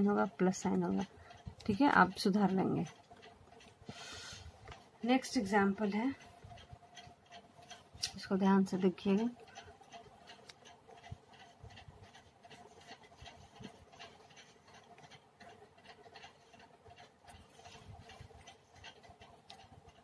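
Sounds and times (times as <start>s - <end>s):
low steady hum: 0.0s - 20.0s
light ticks: 0.6s - 20.0s.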